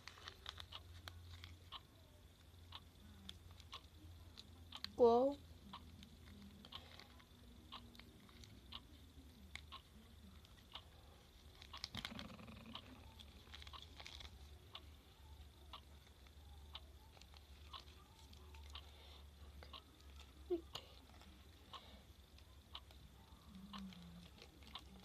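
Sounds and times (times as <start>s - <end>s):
faint clicks and taps: 0.0s - 5.0s, 5.6s - 25.0s.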